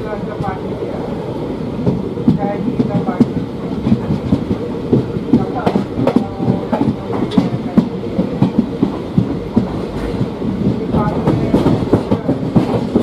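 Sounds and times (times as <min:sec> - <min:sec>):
low train rumble: 0:00.0 - 0:13.0
train wheels clattering over rail joints: 0:01.8 - 0:13.0.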